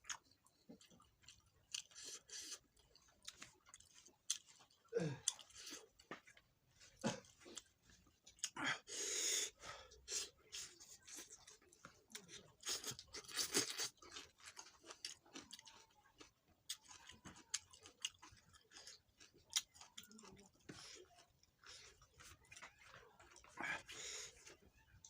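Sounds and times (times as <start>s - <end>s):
person chewing and smacking: 0.0s - 8.6s, 10.0s - 25.0s.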